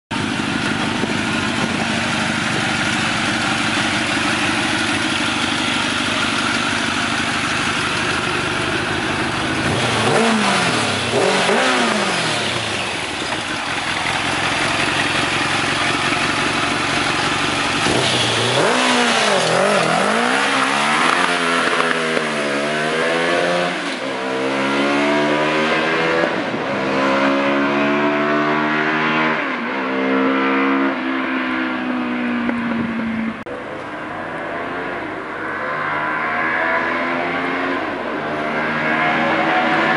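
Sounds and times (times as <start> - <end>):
motorcycle engine revving: 0.1 - 33.5, 34.3 - 39.9.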